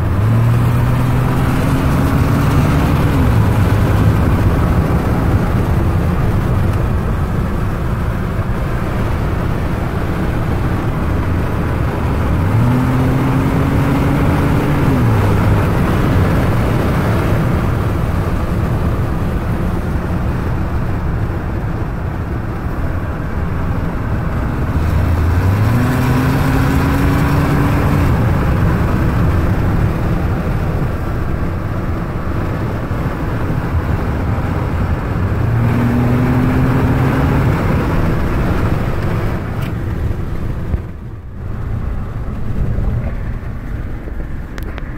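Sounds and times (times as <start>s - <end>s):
road noise: 0.0s - 44.9s
turbocharged engine at full throttle: 0.0s - 44.9s.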